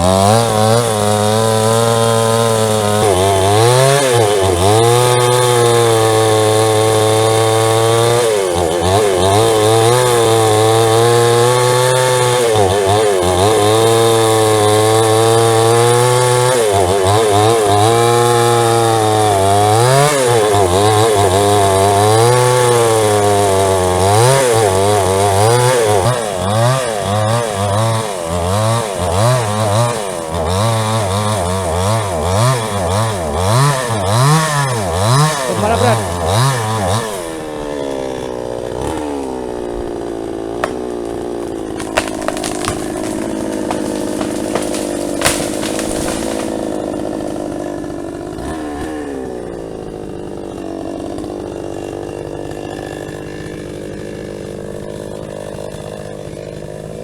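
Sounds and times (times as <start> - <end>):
chainsaw running at high revs: 0.0 - 57.0.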